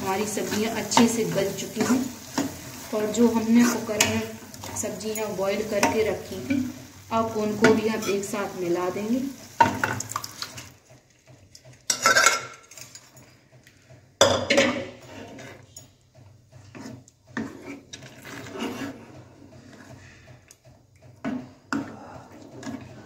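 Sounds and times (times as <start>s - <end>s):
stirring thick food: 0.0s - 12.0s, 14.8s - 23.0s.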